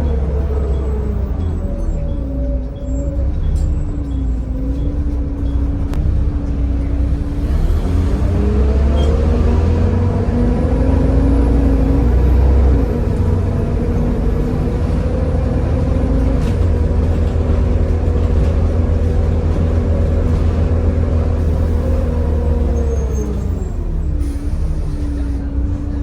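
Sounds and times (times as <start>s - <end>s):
bus diesel engine droning: 0.0s - 26.0s.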